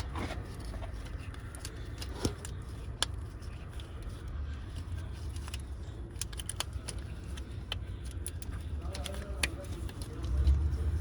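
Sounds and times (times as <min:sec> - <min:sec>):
bolt clicks and scrapes: 0:00.0 - 0:10.6.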